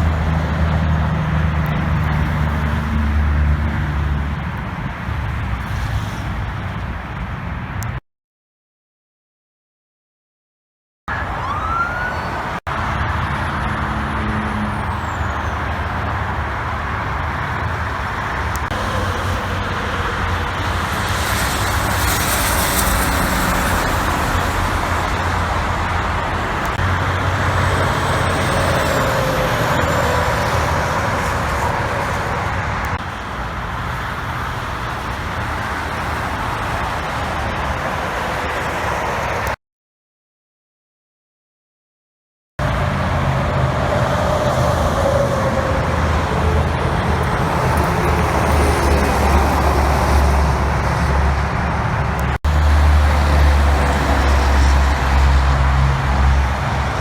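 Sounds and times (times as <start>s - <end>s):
heavy diesel trucks passing: 0.0s - 8.0s, 11.1s - 39.6s, 42.6s - 57.0s
tyre and road noise: 0.0s - 8.0s, 11.1s - 39.6s, 42.6s - 57.0s.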